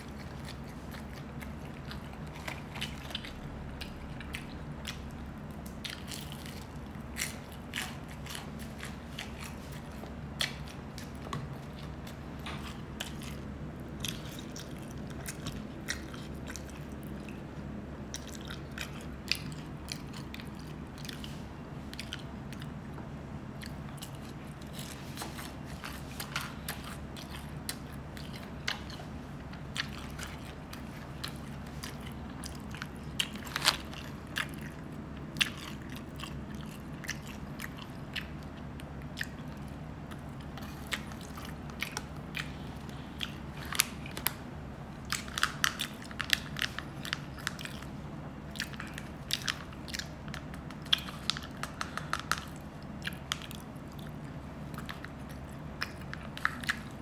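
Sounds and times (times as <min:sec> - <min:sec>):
person chewing food: 0:00.0 - 0:57.0
steady low hum: 0:00.0 - 0:57.0.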